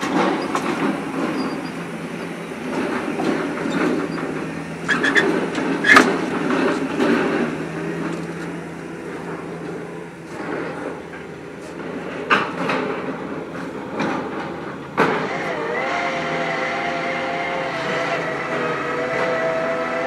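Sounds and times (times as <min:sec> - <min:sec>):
piling rig engine and hydraulics: 0:00.0 - 0:20.0.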